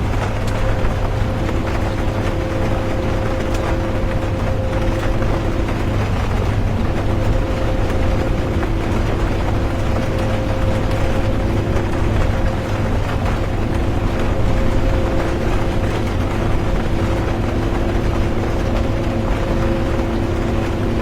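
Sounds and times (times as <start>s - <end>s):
bus engine and road rumble: 0.0s - 21.0s
droning hum: 0.0s - 21.0s
light rain ticks: 0.0s - 21.0s.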